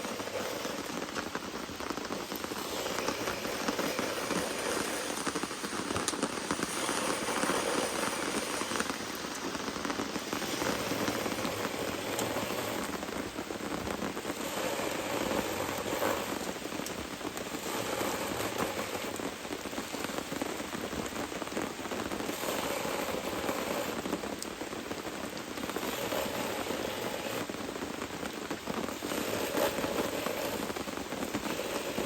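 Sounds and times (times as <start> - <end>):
rain hissing: 0.0 - 32.0
raindrops ticking on surfaces: 0.0 - 32.0.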